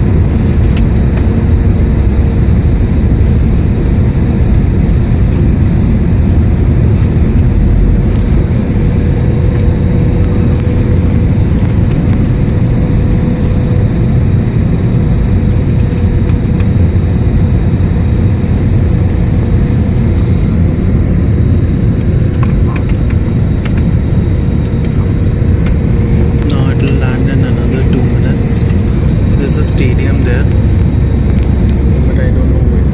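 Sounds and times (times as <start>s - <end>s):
airliner cabin rumble: 0.0s - 32.9s
steady hum: 0.0s - 32.9s.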